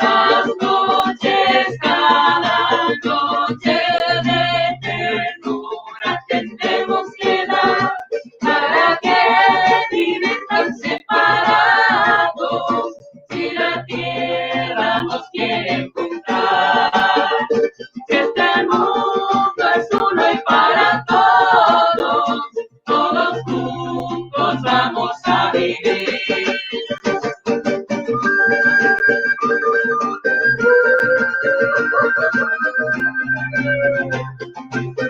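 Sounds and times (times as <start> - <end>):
person singing: 0.0 - 27.4, 28.1 - 35.0
instrumental accompaniment: 0.0 - 35.0.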